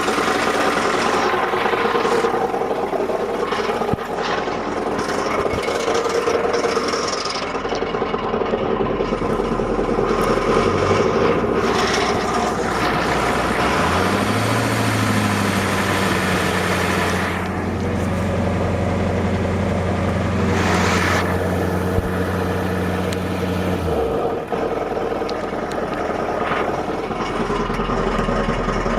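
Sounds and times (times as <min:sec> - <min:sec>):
diesel engine running: 0:00.0 - 0:28.9
engine grinding noise: 0:00.0 - 0:28.9.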